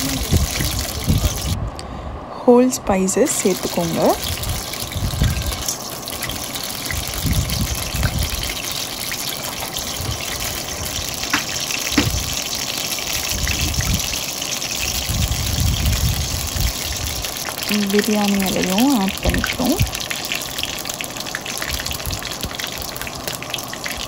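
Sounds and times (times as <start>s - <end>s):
spices sizzling in hot oil: 0.0s - 1.6s, 3.0s - 24.0s
oil popping: 3.5s - 24.0s.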